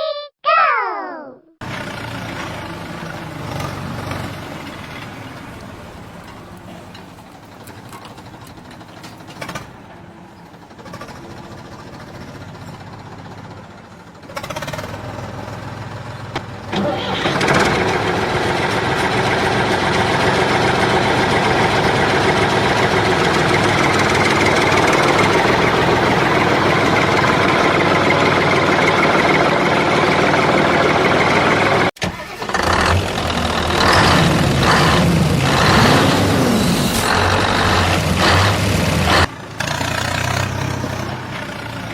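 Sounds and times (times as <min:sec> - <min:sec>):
engine-like running sound: 0:01.6 - 0:41.9.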